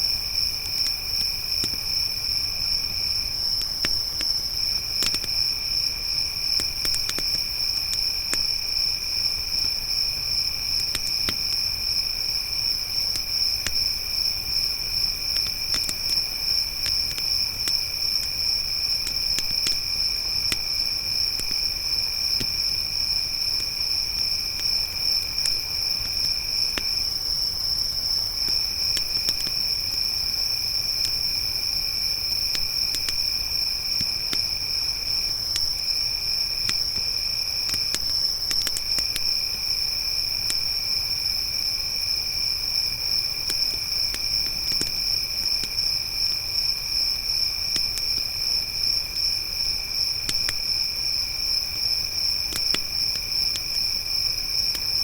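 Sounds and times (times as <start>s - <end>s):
campfire crackling: 0.0s - 55.0s
crickets chirping: 0.0s - 55.0s.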